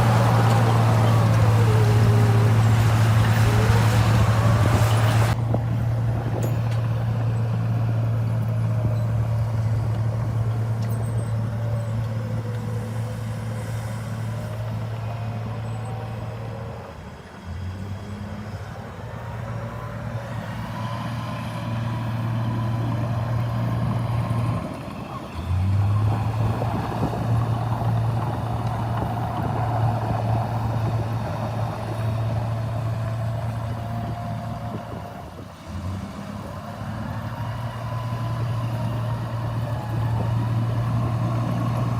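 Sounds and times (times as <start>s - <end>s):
diesel machine engine drone: 0.0s - 41.9s.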